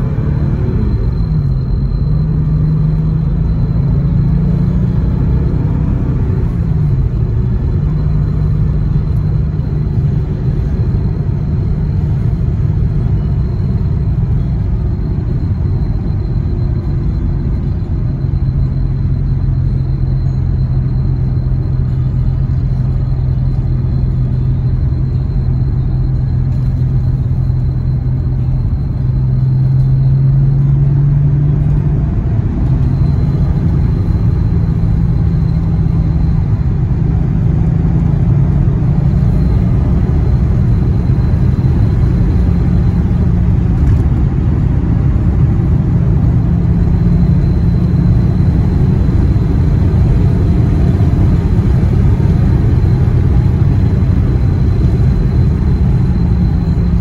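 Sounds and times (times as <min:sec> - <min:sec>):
car engine running: 0:00.0 - 0:57.0
road and wind noise: 0:00.0 - 0:57.0.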